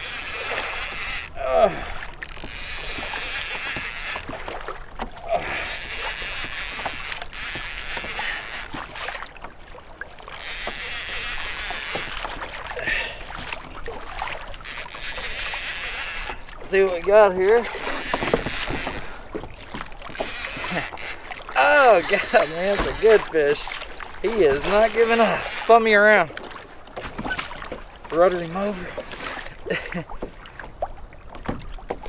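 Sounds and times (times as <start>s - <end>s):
fishing reel whirring: 0.0s - 9.5s, 10.2s - 26.4s.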